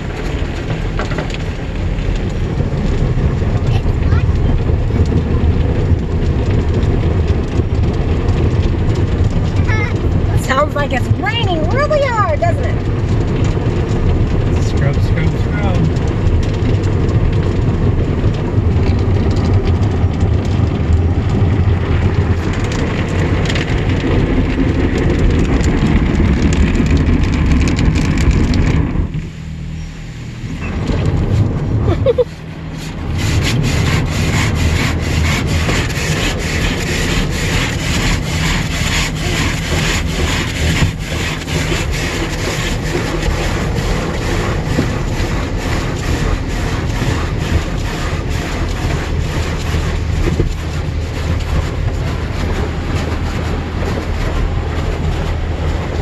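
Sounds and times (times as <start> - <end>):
car wash brushes scrubbing: 0.0 - 56.0
water drumming on car: 0.0 - 56.0.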